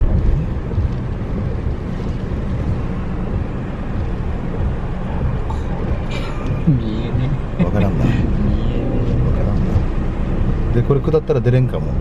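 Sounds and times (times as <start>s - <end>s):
heavy surf: 0.0s - 12.0s
strong wind buffeting microphone: 0.0s - 12.0s.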